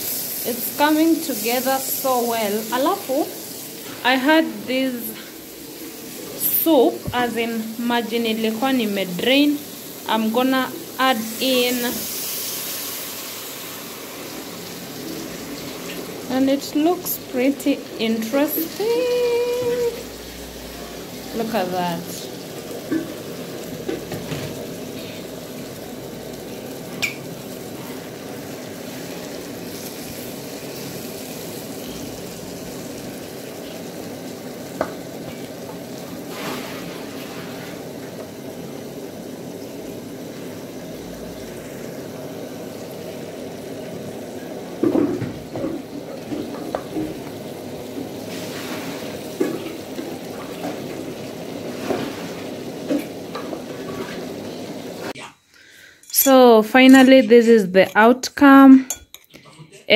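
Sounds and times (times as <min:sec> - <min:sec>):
broth sizzling and bubbling: 0:00.0 - 0:55.2.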